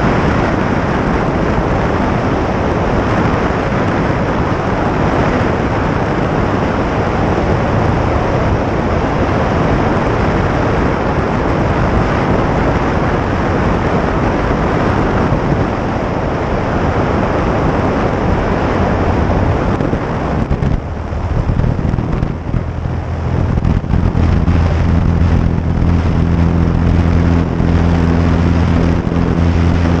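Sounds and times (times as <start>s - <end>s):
airplane engine drone: 0.0s - 30.0s
wind rushing over microphone: 0.0s - 30.0s.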